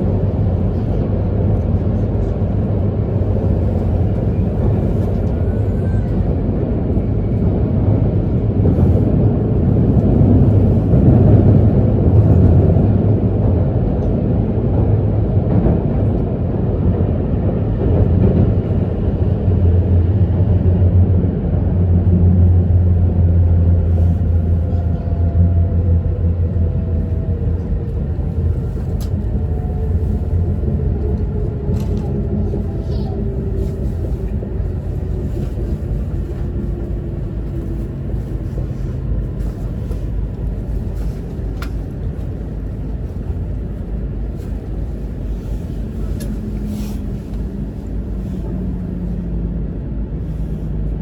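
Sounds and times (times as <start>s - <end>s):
train rumble and hum: 0.0s - 51.0s.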